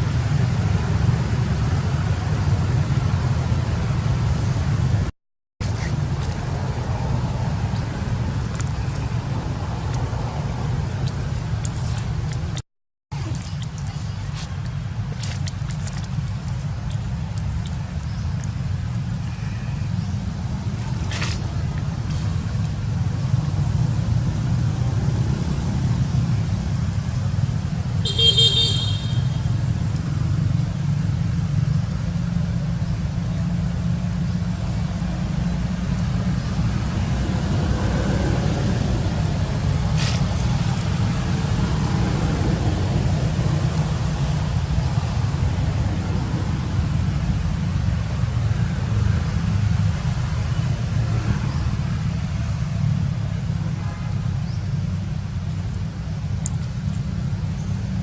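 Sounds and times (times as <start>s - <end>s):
low rumble of road traffic: 0.0s - 58.0s.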